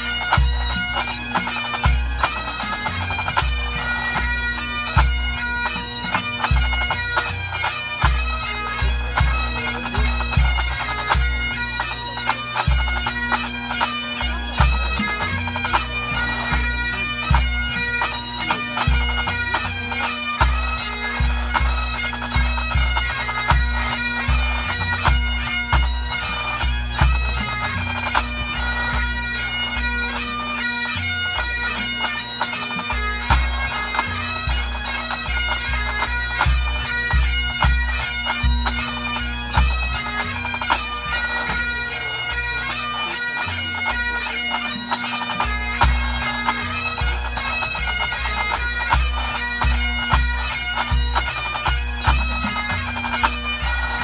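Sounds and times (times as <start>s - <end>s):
bagpipes playing a melody: 0.0s - 54.0s.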